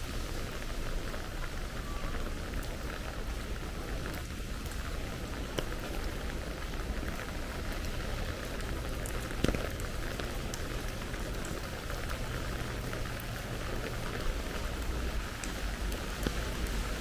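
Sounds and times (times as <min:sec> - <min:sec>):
rain on wet street: 0:00.0 - 0:17.0.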